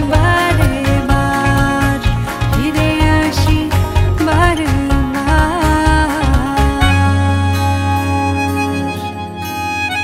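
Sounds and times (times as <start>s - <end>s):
melody of held notes: 0.1s - 10.0s.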